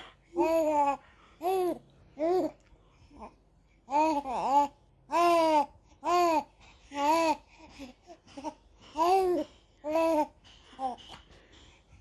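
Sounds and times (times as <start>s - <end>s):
baby cooing: 0.3s - 11.0s.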